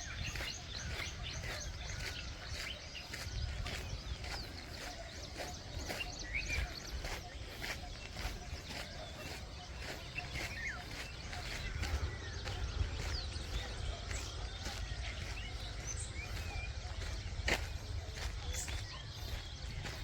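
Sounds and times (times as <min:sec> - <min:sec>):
footsteps: 0:00.0 - 0:20.0
low wind rumble on microphone: 0:00.0 - 0:20.0
small birds chirping: 0:00.0 - 0:20.0.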